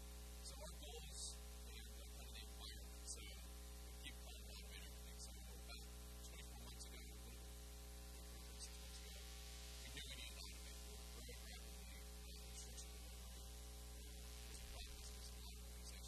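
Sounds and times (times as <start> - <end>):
electrical mains hum: 0.0 - 16.0
faint hiss: 0.0 - 16.0.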